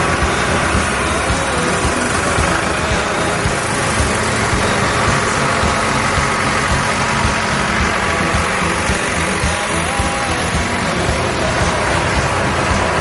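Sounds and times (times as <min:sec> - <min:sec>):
tractor engines running: 0:00.0 - 0:13.0.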